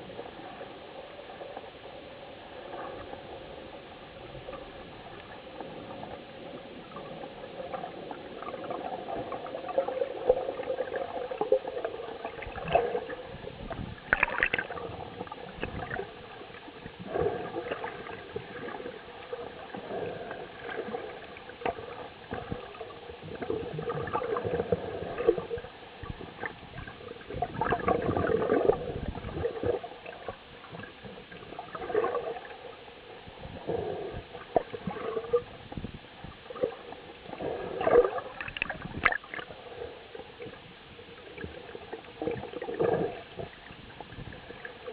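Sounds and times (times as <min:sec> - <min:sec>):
underwater gurgling and sloshing water: 0:00.0 - 0:44.9.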